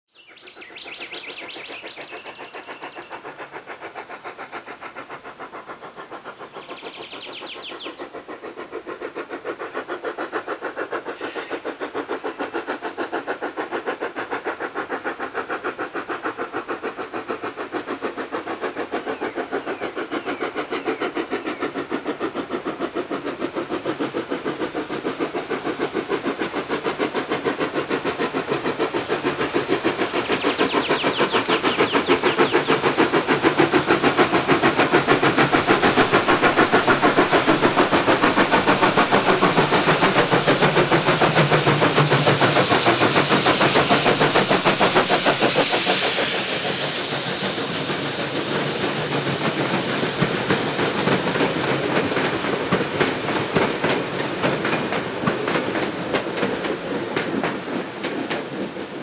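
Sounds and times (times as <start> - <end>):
steam locomotive exhaust chuffing: 0.1 - 59.0.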